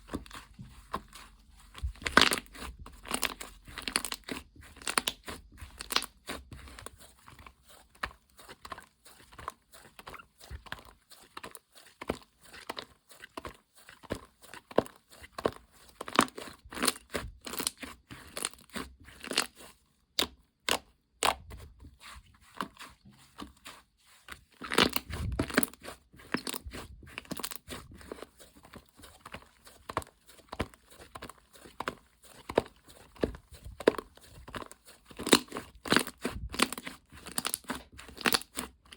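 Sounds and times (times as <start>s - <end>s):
slime squished by hand: 0.0s - 38.9s.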